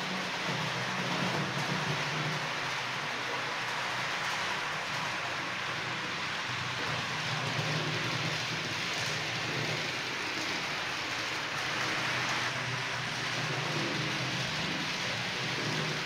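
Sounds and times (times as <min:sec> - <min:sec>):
model train wheels hissing on rails: 0:00.0 - 0:16.0.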